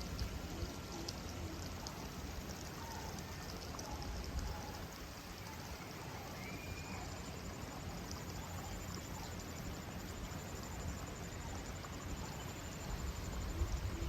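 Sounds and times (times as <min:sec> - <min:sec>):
faint chirps: 0:00.0 - 0:14.0
outdoor hiss: 0:00.0 - 0:14.0
rapid insect pulse: 0:00.0 - 0:14.0.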